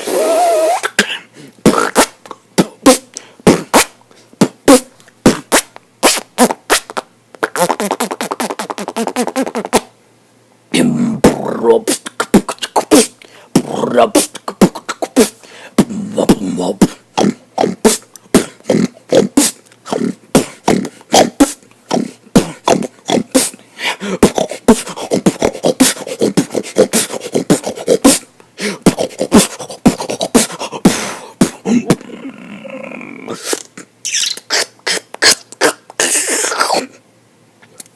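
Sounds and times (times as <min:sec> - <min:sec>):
person beatboxing: 0:00.0 - 0:09.9, 0:10.8 - 0:37.0.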